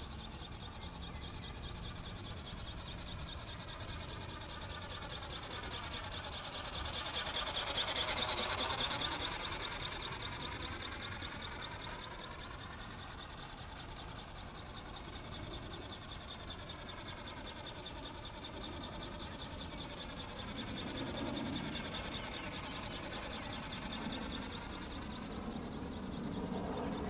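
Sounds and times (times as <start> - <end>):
small electric motor buzzing: 0.0 - 27.0.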